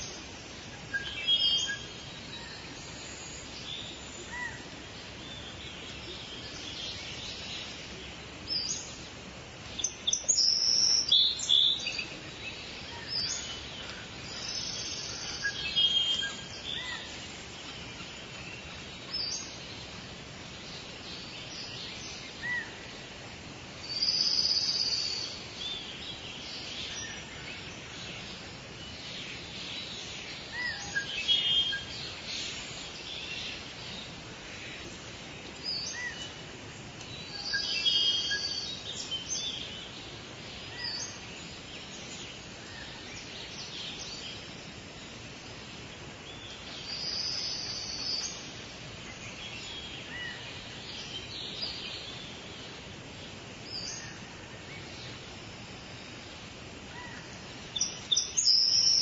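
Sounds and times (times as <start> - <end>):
birds singing and calling: 0.0 - 59.0
steady background hiss: 0.0 - 59.0.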